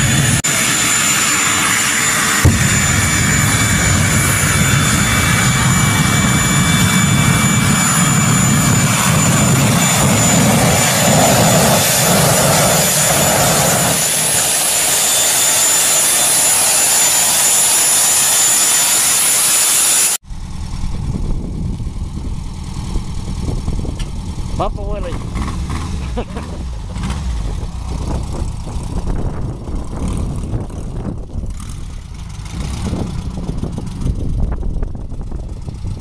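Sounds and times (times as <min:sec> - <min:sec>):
jet turbine engine whine: 0:00.0 - 0:36.0.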